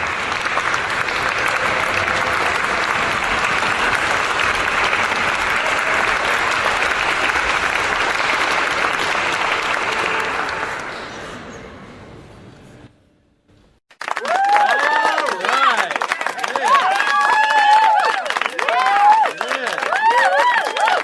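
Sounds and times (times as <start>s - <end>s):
audience applauding: 0.0s - 11.3s, 13.9s - 21.0s.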